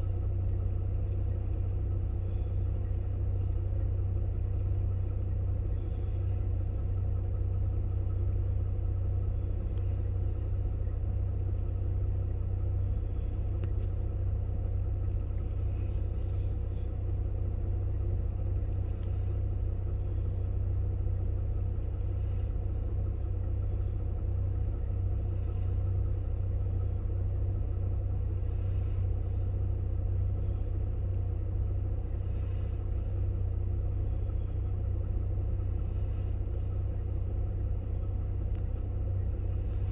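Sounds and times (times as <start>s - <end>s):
low rumbling drone: 0.0s - 39.9s.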